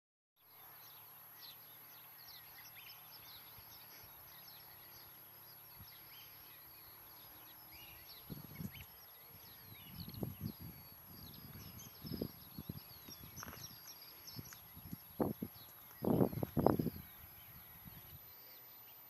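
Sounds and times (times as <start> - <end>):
small birds chirping: 0.4 - 19.0
steady low hiss: 0.5 - 19.0.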